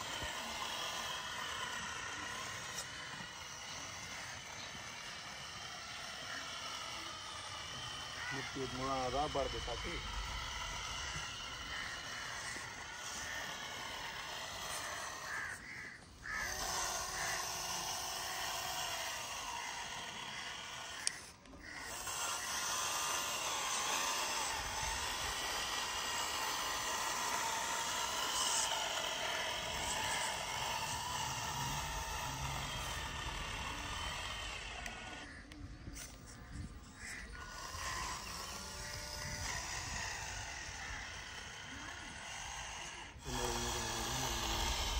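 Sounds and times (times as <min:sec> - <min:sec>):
small motor and gearbox whining: 0:00.0 - 0:44.9.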